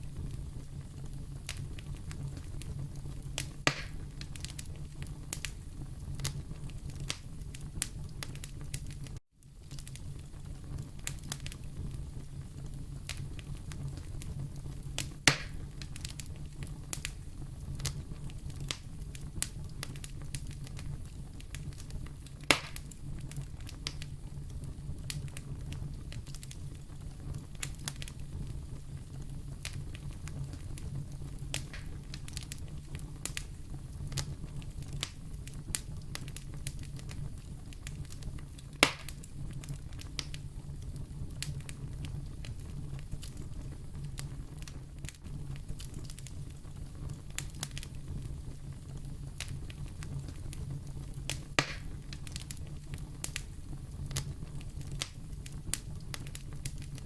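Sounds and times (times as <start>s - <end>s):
fire crackling: 0.0s - 57.0s
fire rumble: 0.0s - 57.0s
loud fire pops: 0.0s - 57.0s.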